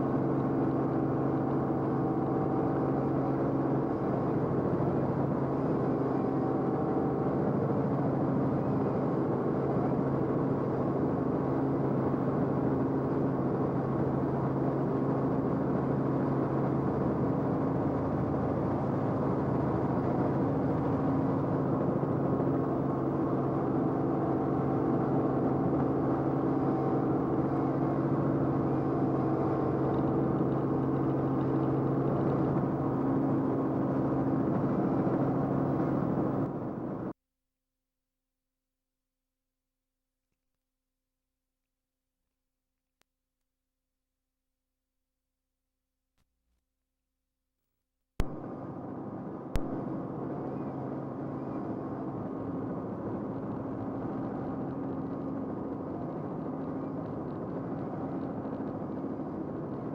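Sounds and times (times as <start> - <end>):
aircraft engine drone in cabin: 0.0 - 37.2, 48.2 - 59.9.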